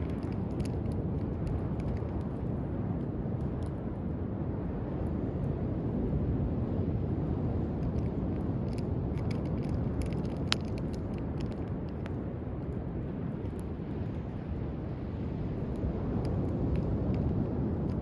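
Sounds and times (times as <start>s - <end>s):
campfire crackling and popping: 0.0s - 4.1s, 7.2s - 18.0s.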